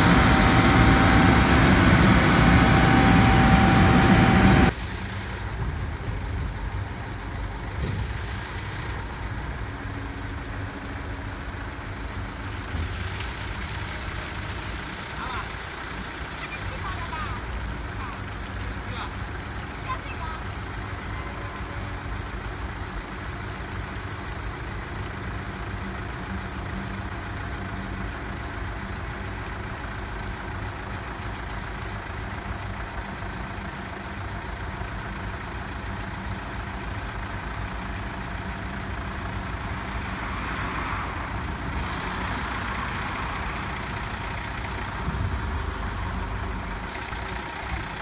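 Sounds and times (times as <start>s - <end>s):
truck engine running: 0.0s - 48.0s.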